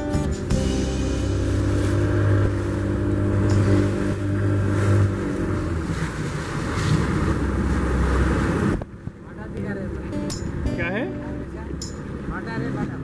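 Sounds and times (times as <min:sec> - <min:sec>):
speed boat engine drone: 0:00.0 - 0:13.0
water rushing: 0:00.0 - 0:13.0
wind: 0:00.0 - 0:13.0.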